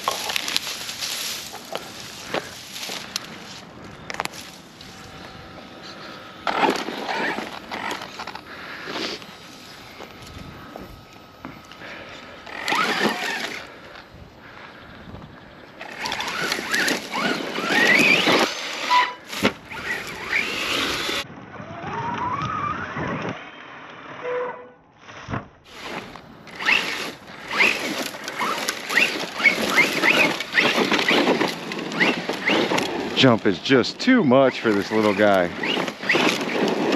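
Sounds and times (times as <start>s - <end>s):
tyres pushing through weeds: 0.0s - 14.9s, 15.6s - 21.2s, 25.7s - 36.9s
electric motor whining: 0.0s - 24.3s, 25.7s - 33.5s, 34.6s - 36.9s.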